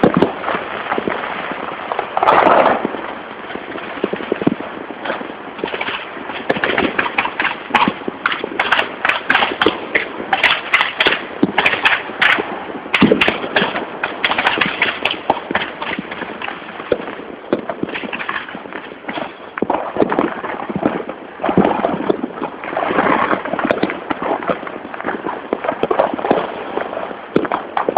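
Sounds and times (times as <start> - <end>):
firecrackers popping: 0.0 - 27.9.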